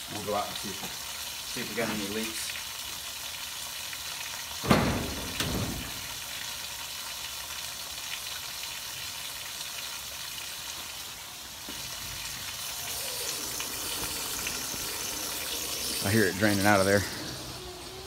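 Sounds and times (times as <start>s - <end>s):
water draining hiss: 0.0s - 6.8s, 9.8s - 18.0s.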